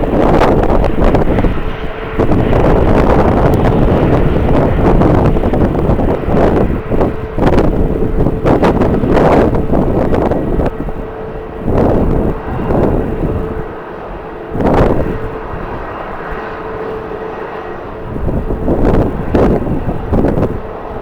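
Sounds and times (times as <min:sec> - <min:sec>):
jet engines humming: 0:00.0 - 0:21.0
wind buffeting the microphone: 0:00.0 - 0:21.0.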